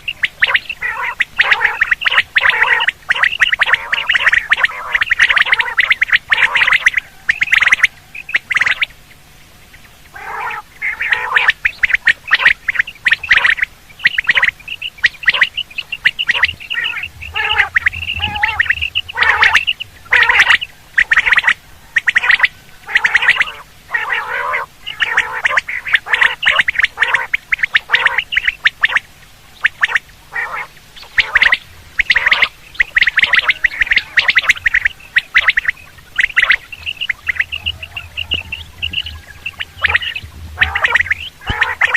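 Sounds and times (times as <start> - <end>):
quail calling: 0.0 - 41.9.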